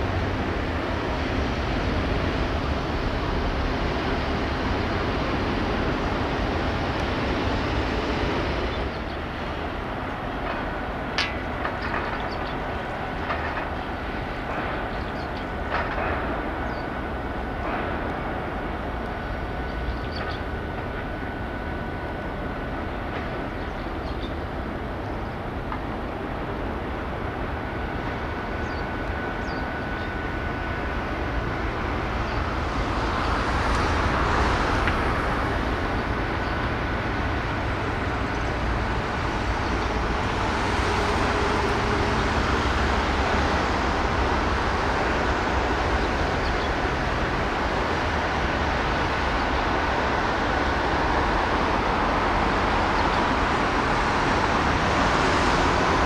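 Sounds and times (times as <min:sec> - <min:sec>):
road traffic rushing: 0:00.0 - 0:56.0.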